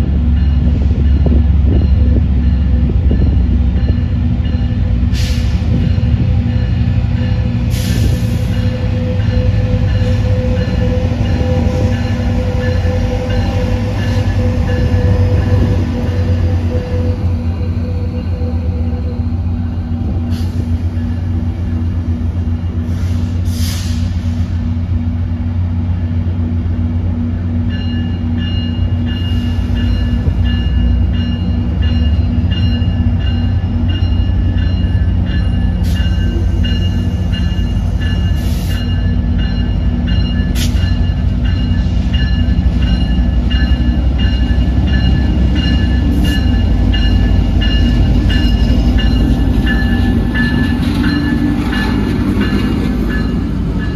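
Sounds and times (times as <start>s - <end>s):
locomotive engine droning: 0.0s - 53.9s.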